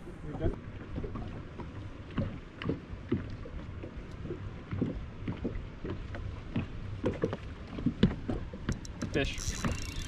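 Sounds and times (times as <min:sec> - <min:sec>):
waves lapping against boat hull: 0:00.0 - 0:10.0.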